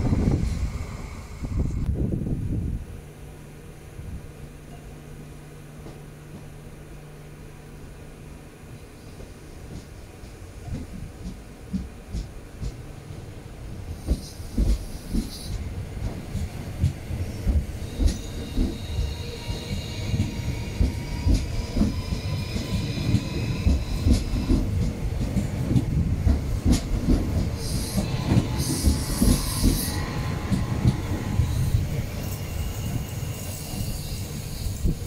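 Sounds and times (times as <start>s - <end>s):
electric train running past: 0.0s - 35.0s.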